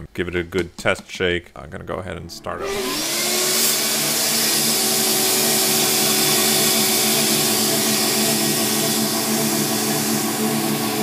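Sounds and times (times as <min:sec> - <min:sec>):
shop vac running: 0:02.2 - 0:11.0.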